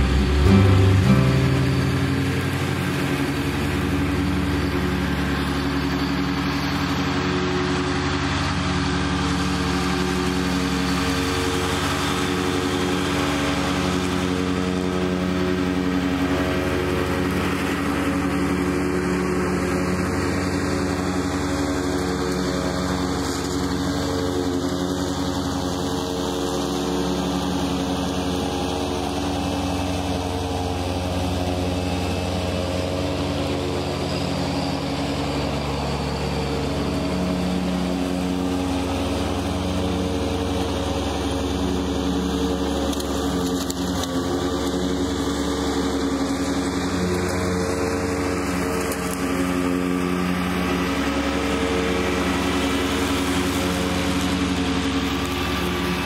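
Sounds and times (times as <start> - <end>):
mower cutting tall grass: 0.0 - 56.0
tractor diesel engine running: 0.0 - 56.0.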